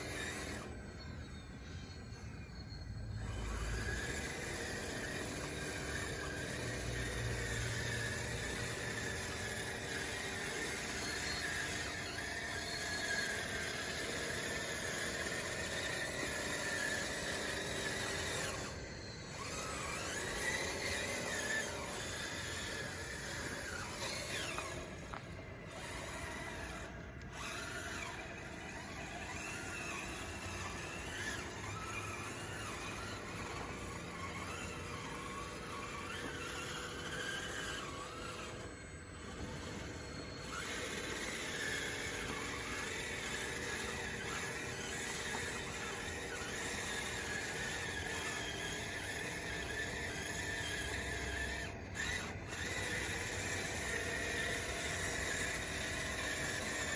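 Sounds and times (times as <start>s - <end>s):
model bulldozer motors whining: 0.0s - 56.9s.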